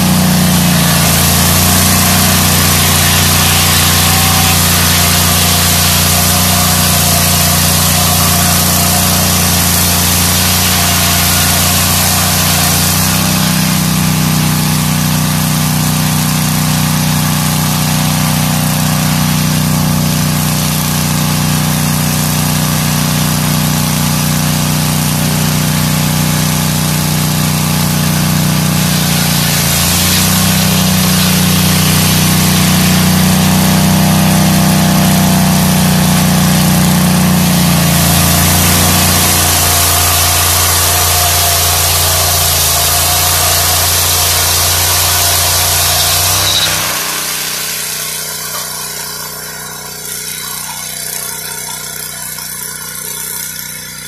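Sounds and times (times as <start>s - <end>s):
circular blade cutting log: 0.0s - 54.0s
sawmill engine running: 0.0s - 54.0s.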